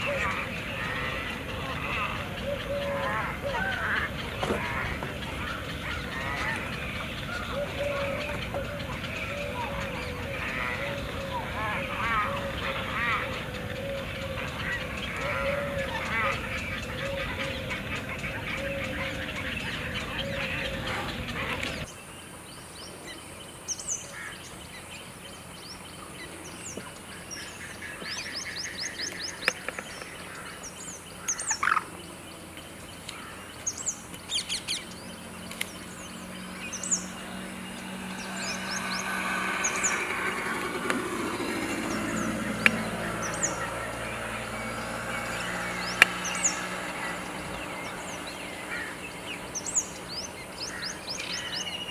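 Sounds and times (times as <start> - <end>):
water birds calling: 0.0 - 51.9.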